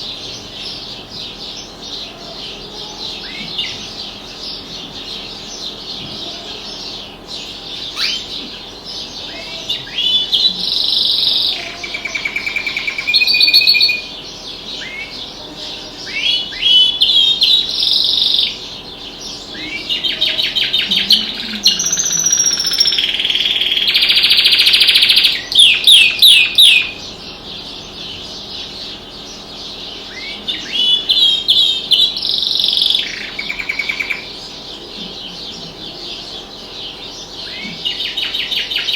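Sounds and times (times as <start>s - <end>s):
canary singing: 0.0s - 38.9s
other birds chirping: 0.0s - 38.9s.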